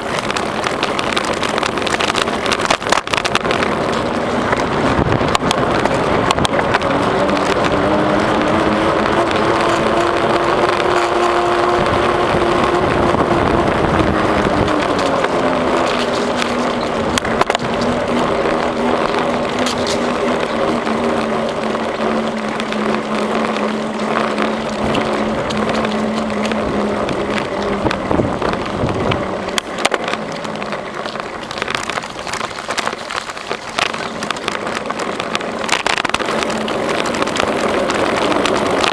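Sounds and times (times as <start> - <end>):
bicycle tyre noise: 0.0 - 38.9
sharp clicks and rattles: 0.0 - 38.9
steady hum drifting in pitch: 0.0 - 38.9
wind on microphone: 0.0 - 38.9.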